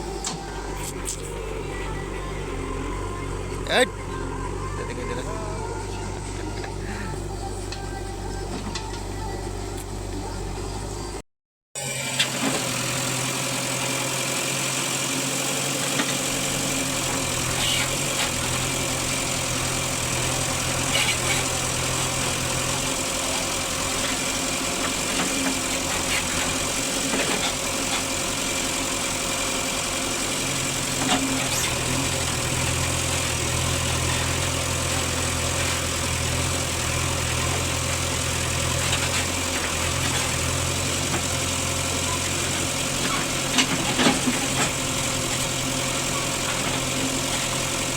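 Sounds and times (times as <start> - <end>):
diesel engines running: 0.0 - 11.2, 11.8 - 47.9.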